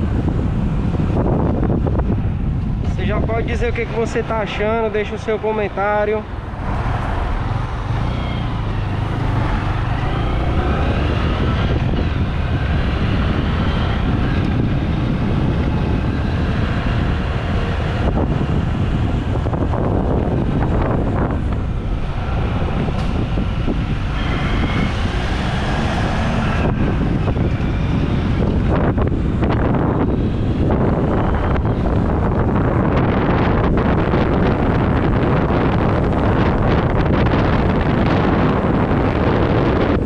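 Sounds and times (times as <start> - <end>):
road noise: 0.0 - 40.0
wind rumble on microphone: 0.0 - 40.0
motorcycle engine: 4.6 - 40.0.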